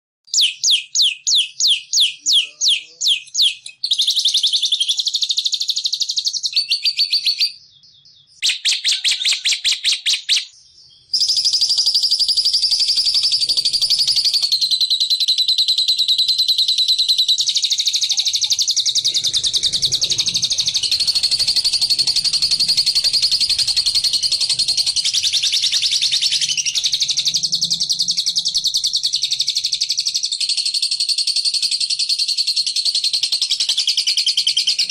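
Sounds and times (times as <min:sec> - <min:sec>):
songbird chirps and trills: 0:00.3 - 0:34.9.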